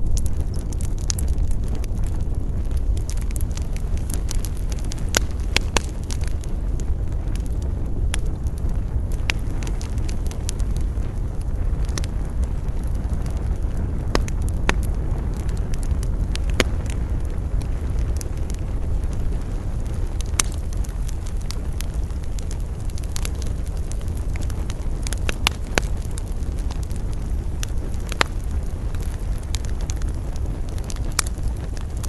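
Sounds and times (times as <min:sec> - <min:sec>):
campfire crackling and popping: 0:00.0 - 0:32.0
low rumble of wind: 0:00.0 - 0:32.0.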